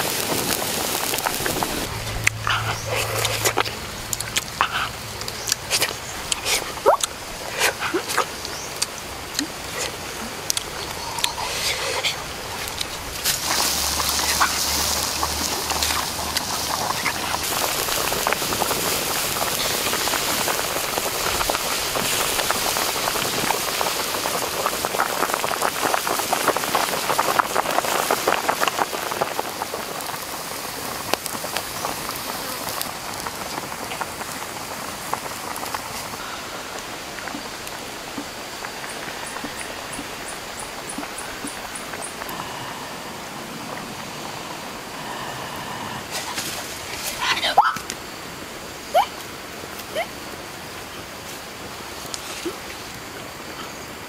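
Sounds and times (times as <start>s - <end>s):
broth boiling and bubbling: 0.0s - 54.0s.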